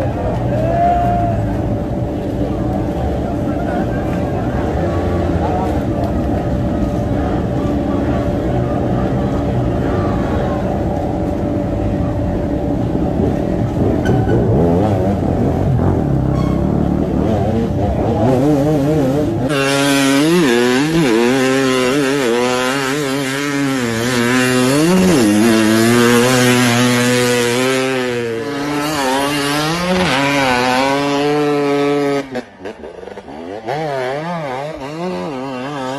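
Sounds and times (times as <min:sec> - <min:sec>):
motorcycle engine revving: 0:01.4 - 0:35.9.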